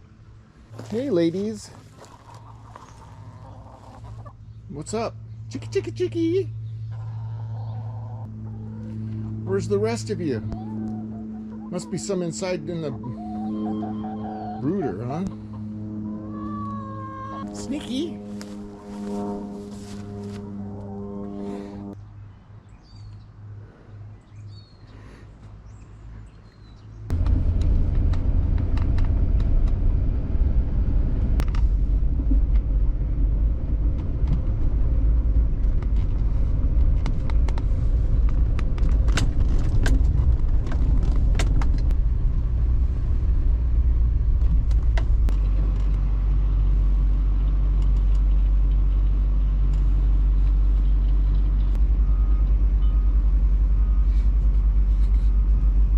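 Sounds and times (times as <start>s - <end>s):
vehicle engine running low: 0.7s - 22.0s, 27.0s - 55.9s.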